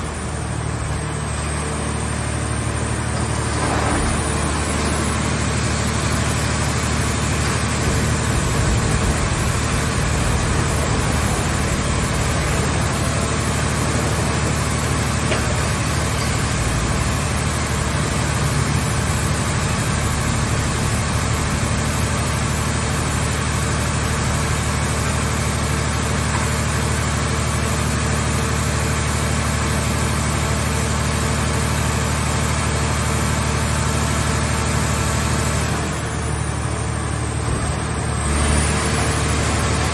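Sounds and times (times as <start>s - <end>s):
hydraulic baler engine humming: 0.0s - 29.6s, 30.2s - 39.9s.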